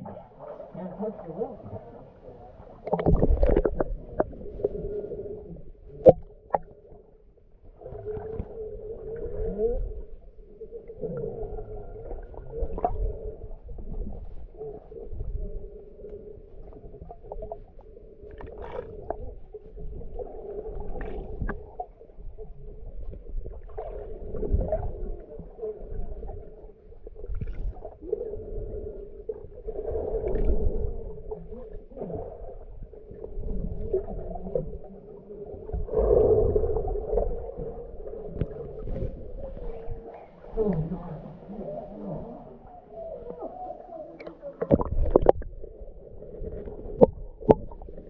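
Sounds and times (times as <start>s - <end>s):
water sloshing and bubbling: 0.0s - 48.0s.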